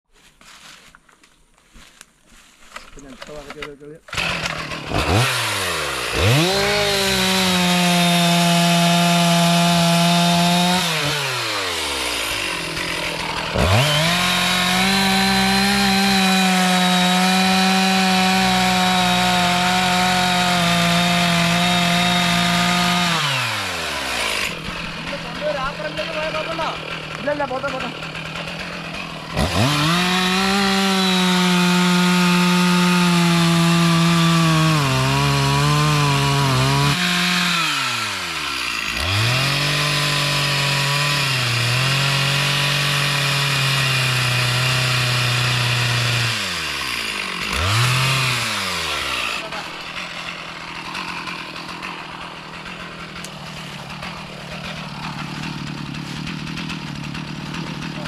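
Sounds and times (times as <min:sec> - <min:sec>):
chainsaw idling: 0:02.4 - 0:58.0
chainsaw revving and cutting: 0:03.2 - 0:58.0.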